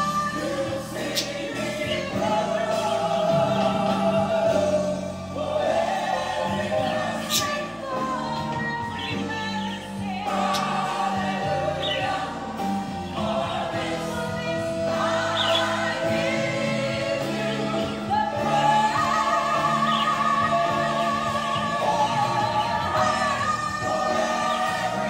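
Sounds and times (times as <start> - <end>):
gospel choir singing: 0.0 - 25.0
instrumental accompaniment: 0.0 - 25.0.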